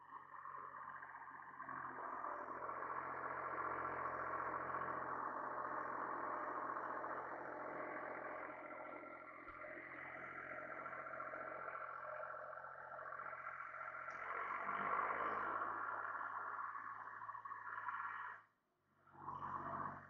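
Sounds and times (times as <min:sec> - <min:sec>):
tractor engine running: 0:00.1 - 0:17.8.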